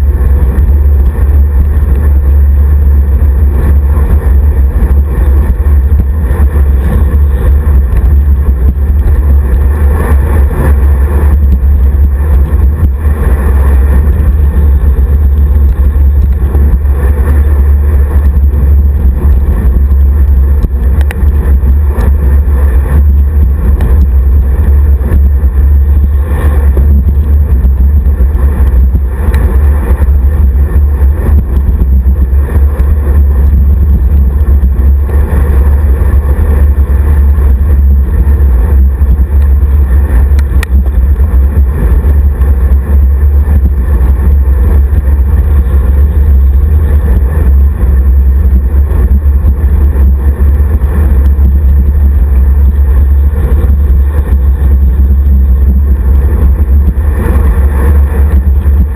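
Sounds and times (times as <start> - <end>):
road vibration rumble: 0.0 - 58.9
wind buffeting microphone: 0.0 - 58.9.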